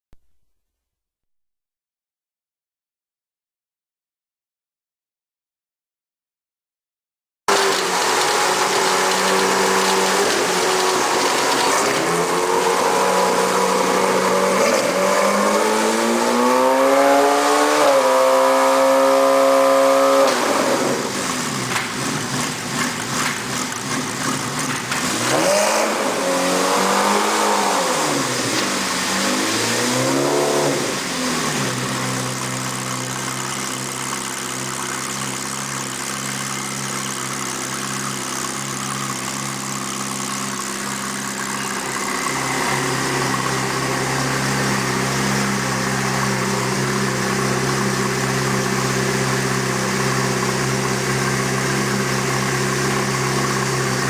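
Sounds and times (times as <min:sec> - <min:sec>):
race car engine revving and idling: 0:07.5 - 0:54.0.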